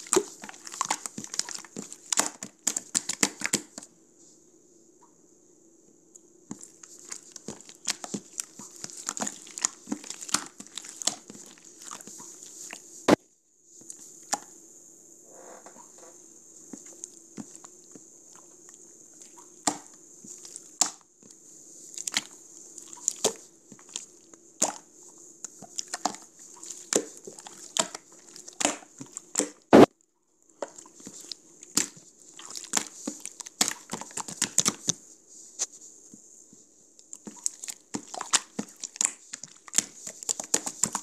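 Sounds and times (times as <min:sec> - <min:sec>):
steady hiss: 0:00.0 - 0:29.9, 0:30.9 - 0:41.0.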